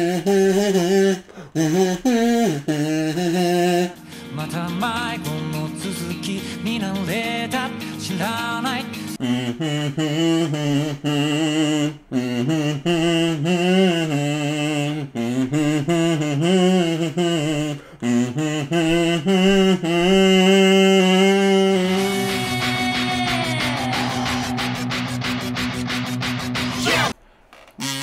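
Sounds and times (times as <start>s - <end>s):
kazoo playing melody: 0.0s - 28.0s.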